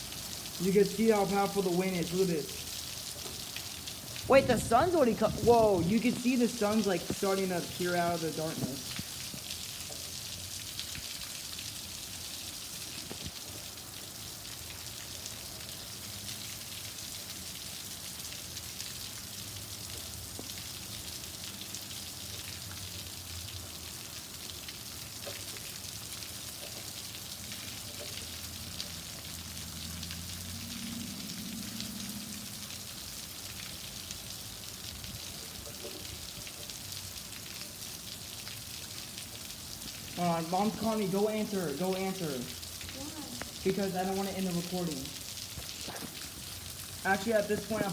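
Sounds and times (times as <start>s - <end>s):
rain hiss with drop ticks: 0.0s - 47.9s.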